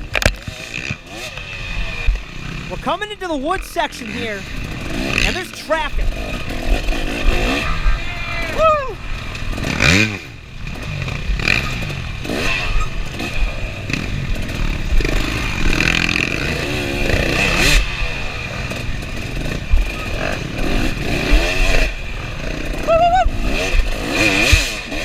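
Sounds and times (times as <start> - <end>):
dirt bike engine revving: 4.0 - 5.3, 6.0 - 25.0.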